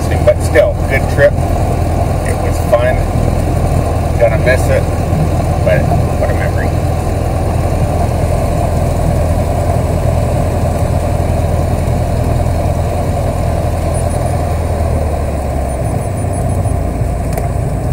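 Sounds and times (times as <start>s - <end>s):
airplane engine idling: 0.0s - 17.9s.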